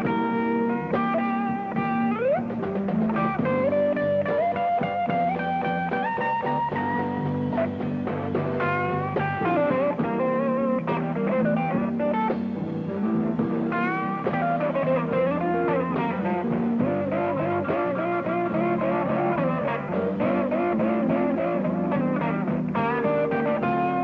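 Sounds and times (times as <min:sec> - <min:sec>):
electric blues band playing: 0:00.0 - 0:24.0
sliding guitar lead line: 0:00.0 - 0:24.0.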